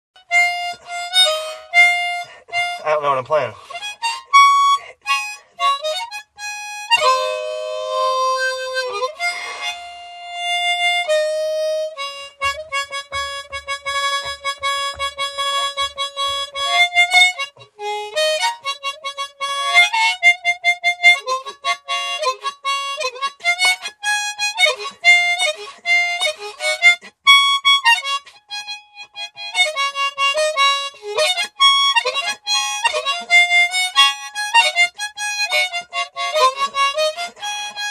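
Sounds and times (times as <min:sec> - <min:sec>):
harmonica playing: 0:00.2 - 0:37.9.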